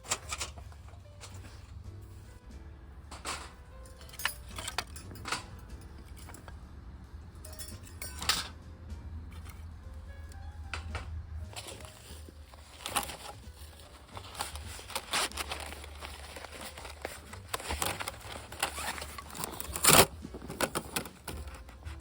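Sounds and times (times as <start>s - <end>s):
crinkling and rustling handling: 0.0s - 2.4s, 3.1s - 6.7s, 9.3s - 22.0s.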